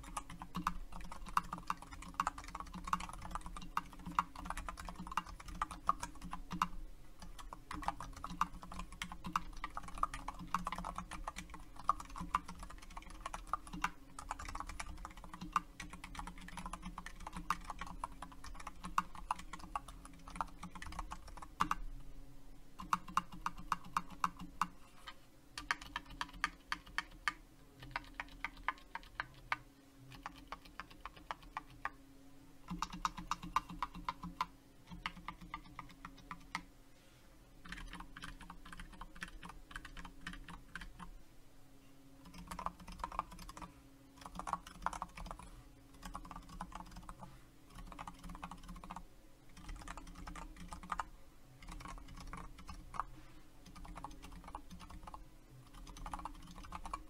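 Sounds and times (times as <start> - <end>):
typing on mechanical keyboard: 0.0 - 21.8, 22.8 - 24.7, 25.6 - 32.0, 32.7 - 36.6, 37.6 - 41.1, 42.2 - 57.0.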